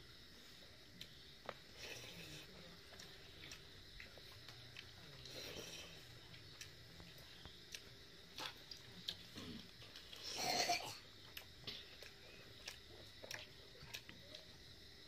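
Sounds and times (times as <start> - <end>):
chewing smacks: 1.0 - 10.4, 11.2 - 14.5.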